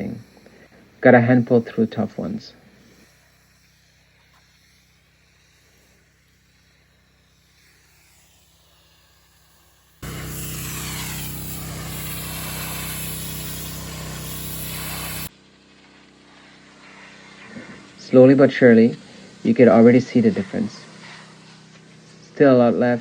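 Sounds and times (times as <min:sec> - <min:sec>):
high-pressure water spray hiss: 0:00.0 - 0:23.0
pressure washer engine running: 0:00.0 - 0:23.0.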